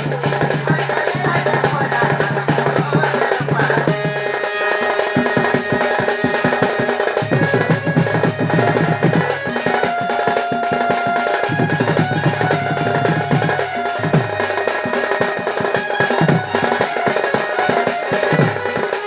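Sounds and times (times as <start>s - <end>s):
fast hand drumming: 0.0s - 19.0s
held melodic tones: 1.2s - 19.0s.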